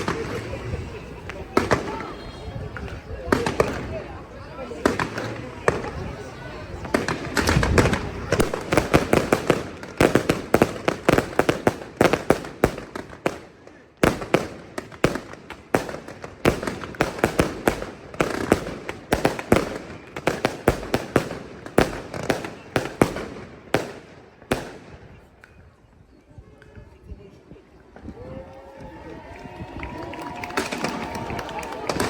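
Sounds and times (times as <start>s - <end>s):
fireworks bursts: 0.0s - 25.5s, 30.2s - 32.0s.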